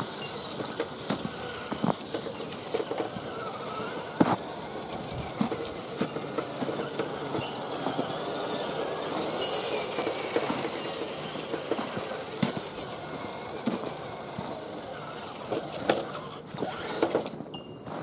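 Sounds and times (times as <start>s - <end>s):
toy car electric motor whirring: 0.0s - 17.5s
knocks and clicks rolling over ground: 0.0s - 18.0s.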